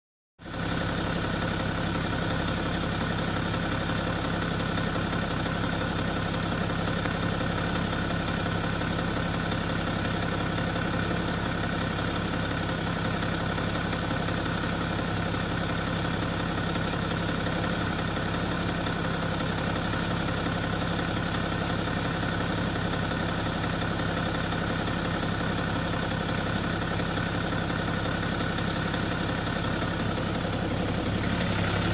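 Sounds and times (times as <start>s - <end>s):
diesel engine running: 0.5s - 31.9s
engine rattle: 0.5s - 31.9s.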